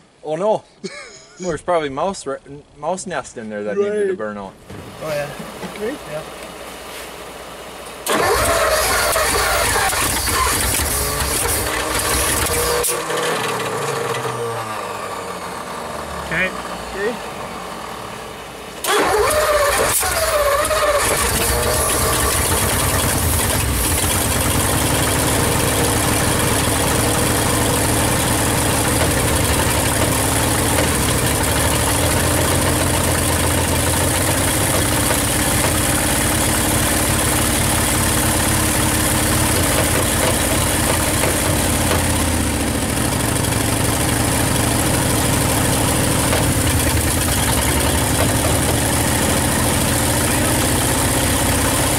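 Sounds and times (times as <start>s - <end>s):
car engine starting and running: 4.6s - 51.9s.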